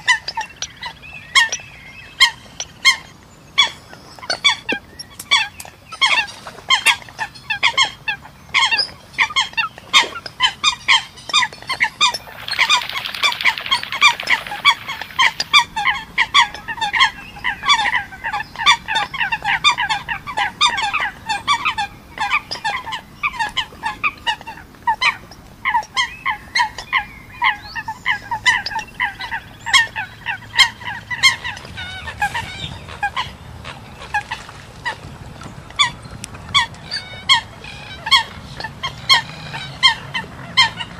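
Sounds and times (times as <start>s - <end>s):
birds calling with sharp notes: 0.0s - 40.9s.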